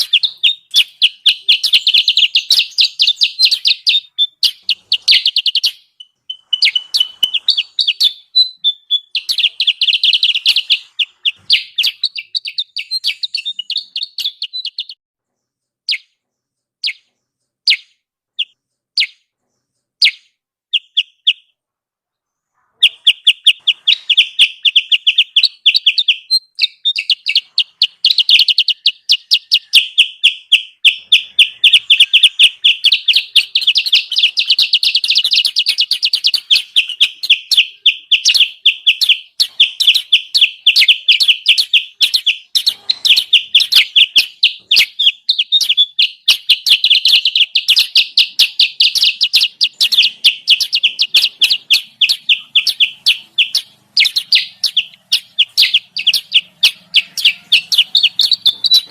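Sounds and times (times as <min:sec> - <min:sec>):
fast high bird chirps: 0:00.0 - 0:21.6, 0:22.3 - 0:58.9.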